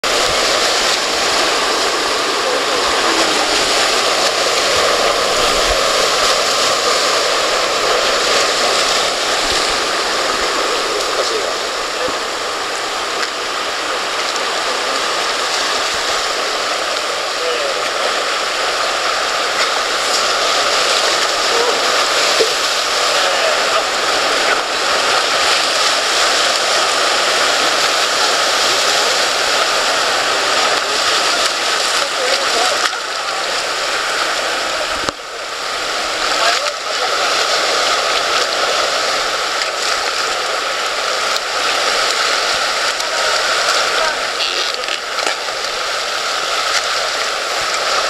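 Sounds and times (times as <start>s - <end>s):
surf breaking on rocks: 0.0s - 48.0s.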